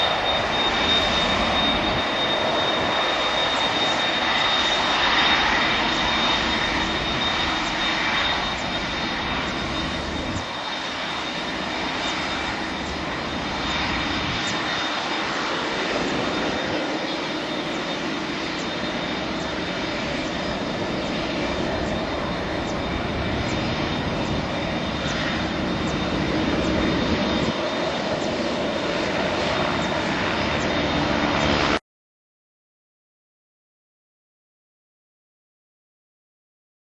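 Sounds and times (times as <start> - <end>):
high-pitched engine whine: 0.0 - 31.8
jet engine roar: 0.0 - 31.8.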